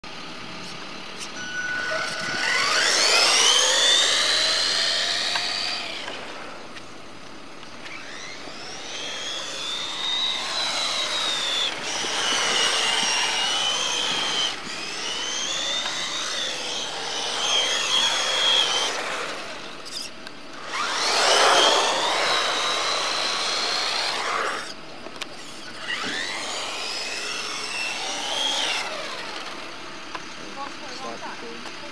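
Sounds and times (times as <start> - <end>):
electric motor whining: 1.2 - 31.9.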